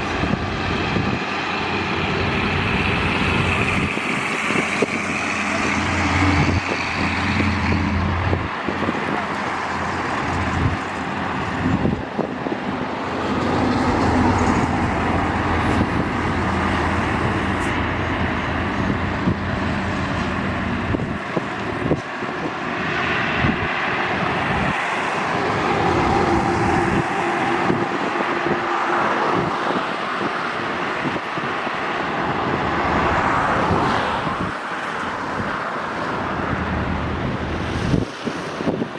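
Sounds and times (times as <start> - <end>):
highway traffic passing: 0.0 - 38.9.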